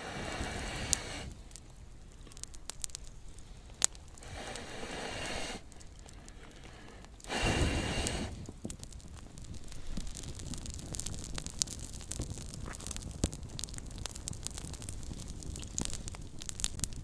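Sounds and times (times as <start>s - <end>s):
fire rushing whoosh: 0.0s - 1.7s, 2.3s - 17.0s
campfire crackling: 0.0s - 17.0s
fire popping: 0.0s - 17.0s.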